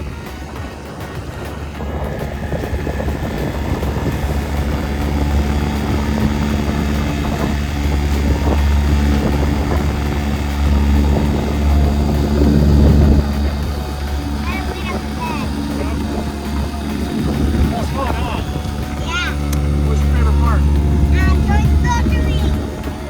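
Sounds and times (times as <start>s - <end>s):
boat motor droning: 0.0s - 23.0s.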